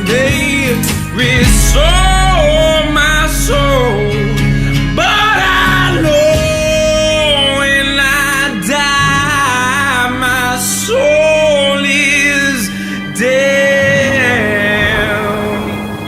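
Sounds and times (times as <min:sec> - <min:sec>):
instrumental backing: 0:00.1 - 0:15.3
person singing long notes: 0:01.4 - 0:16.0.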